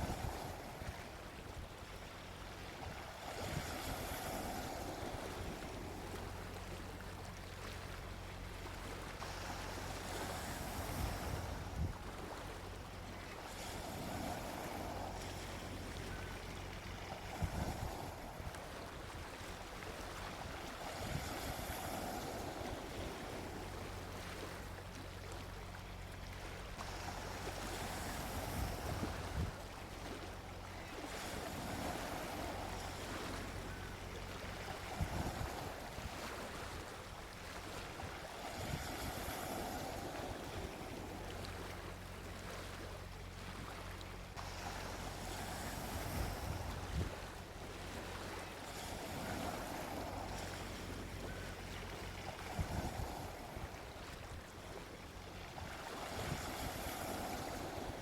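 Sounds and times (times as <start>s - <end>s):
low steady rumble: 0.0s - 58.0s
sea waves washing onto beach: 0.0s - 58.0s.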